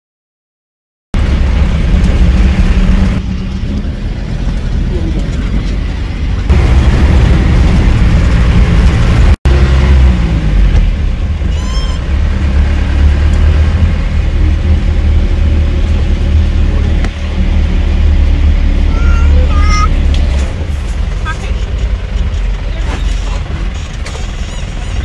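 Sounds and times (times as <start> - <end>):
vehicle engine low rumble: 1.2 - 25.0.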